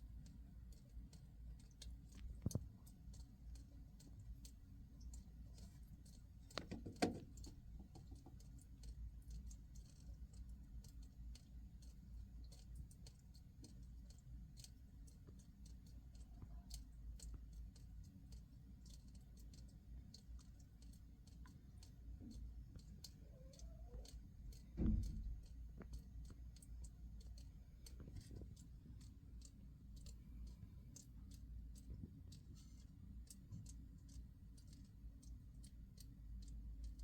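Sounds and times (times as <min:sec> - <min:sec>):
low steady hum: 0:00.0 - 0:37.0
water drops ticking on floor: 0:00.2 - 0:37.0.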